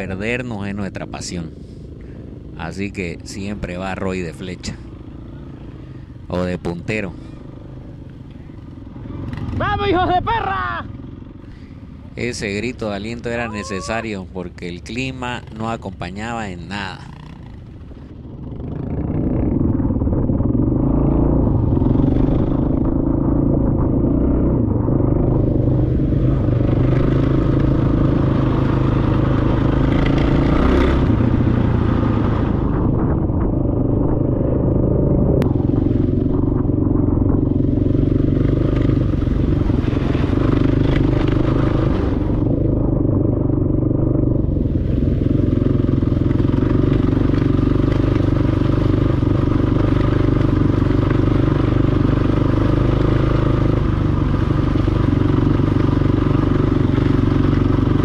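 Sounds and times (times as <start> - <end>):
dirt bike engine running: 0.0 - 14.3, 14.9 - 58.0
wind and wet road noise: 7.1 - 58.0.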